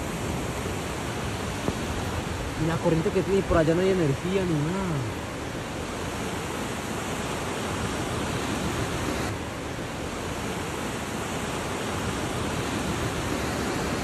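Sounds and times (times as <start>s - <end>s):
torrential rain pouring: 0.0s - 14.0s.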